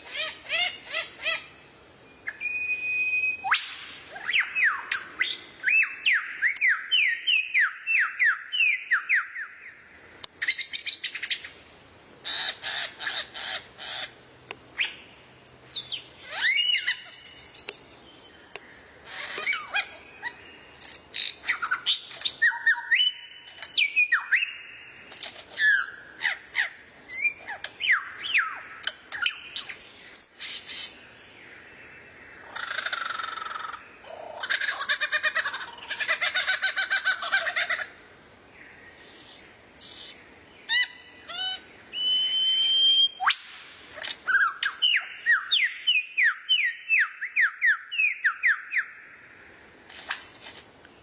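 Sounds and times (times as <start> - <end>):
songbird singing: 0.0 - 51.0.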